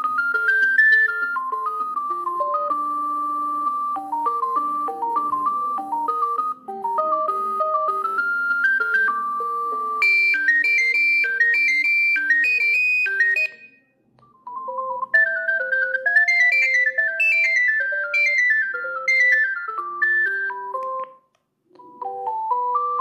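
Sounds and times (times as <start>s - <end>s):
electronic phone ringtone beeps: 0.0s - 21.2s, 21.8s - 23.0s.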